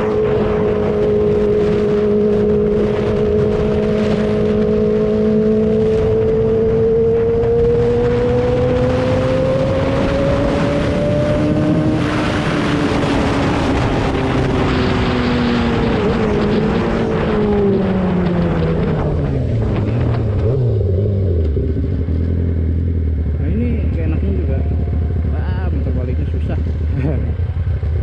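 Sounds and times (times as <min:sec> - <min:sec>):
motorcycle engine running: 0:00.0 - 0:28.0
rush of noise: 0:00.0 - 0:28.0.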